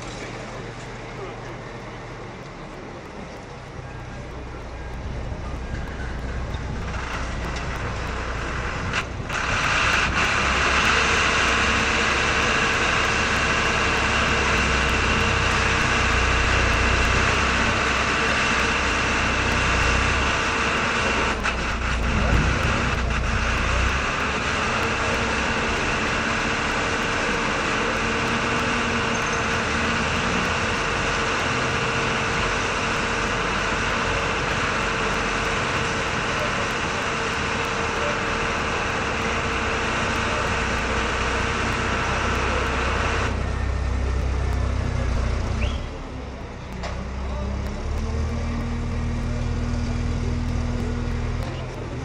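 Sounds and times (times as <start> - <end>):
machinery hum: 0.0 - 52.0.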